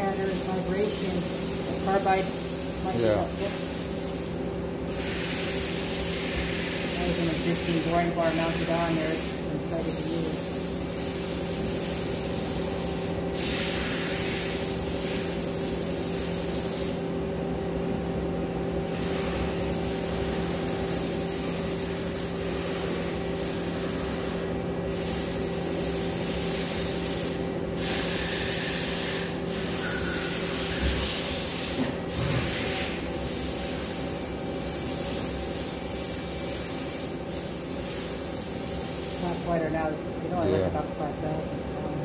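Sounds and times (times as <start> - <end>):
coolant spray hiss: 0.0 - 17.0, 18.9 - 40.8.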